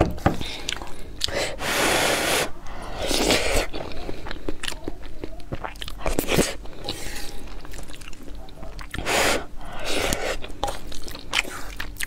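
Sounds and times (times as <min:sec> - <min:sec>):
person chewing with mouth smacking: 0:00.4 - 0:12.0.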